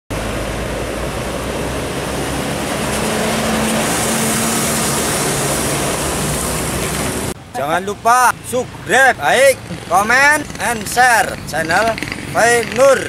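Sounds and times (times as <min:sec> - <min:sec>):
truck diesel engine labouring: 0:00.1 - 0:13.0.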